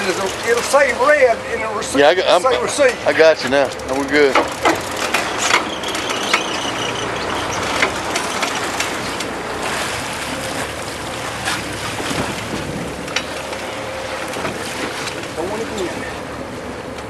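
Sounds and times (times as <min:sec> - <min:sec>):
boat engine running: 0:00.0 - 0:17.0
sea noise: 0:00.0 - 0:17.0
wind: 0:00.0 - 0:17.0.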